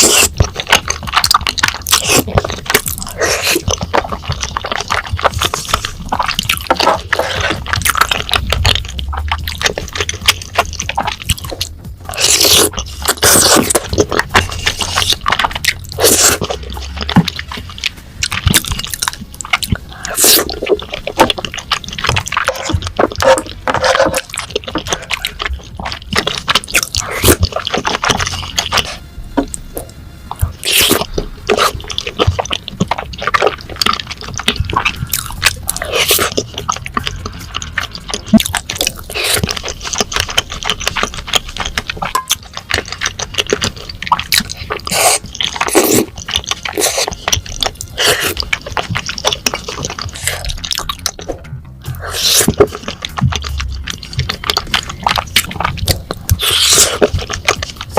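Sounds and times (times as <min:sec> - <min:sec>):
wet sticky chewing: 0:00.0 - 0:57.9.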